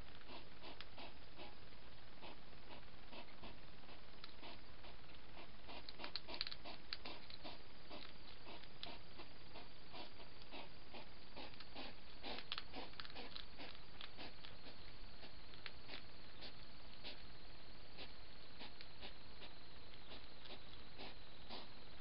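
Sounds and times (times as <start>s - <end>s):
hedgehog chewing and snuffling: 0.0s - 22.0s.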